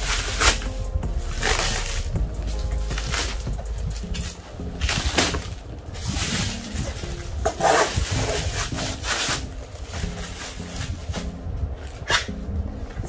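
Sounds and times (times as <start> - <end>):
cardboard packaging scraping: 0.0 - 11.4.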